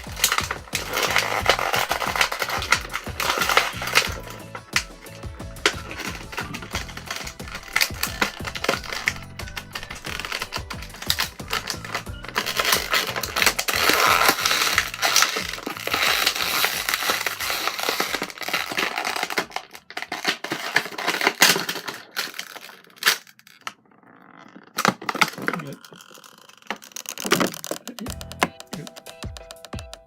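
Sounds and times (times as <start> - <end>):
plastic packaging crackling: 0.0 - 30.0.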